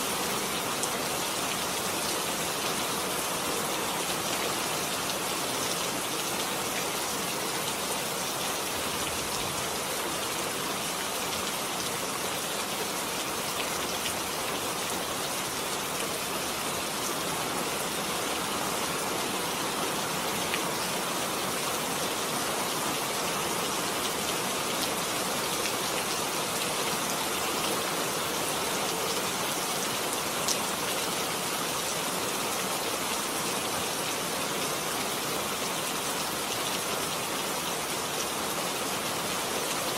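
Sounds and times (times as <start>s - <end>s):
steady rain on hard surfaces: 0.0s - 39.9s.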